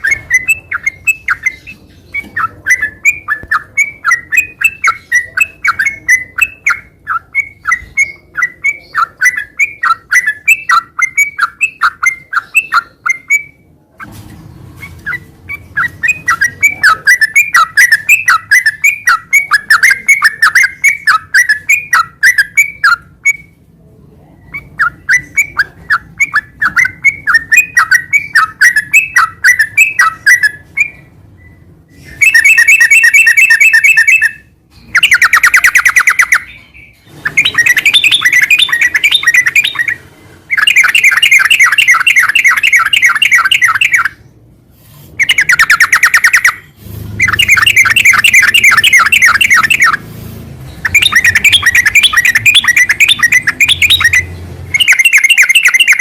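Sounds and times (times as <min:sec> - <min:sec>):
bird chirping and trilling: 0:00.0 - 0:23.6, 0:24.4 - 0:56.0.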